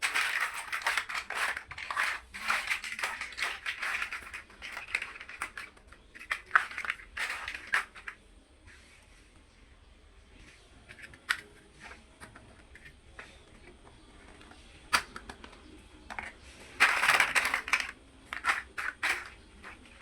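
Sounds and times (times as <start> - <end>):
plastic bricks clicking and rattling: 0.0 - 8.2, 10.8 - 20.0.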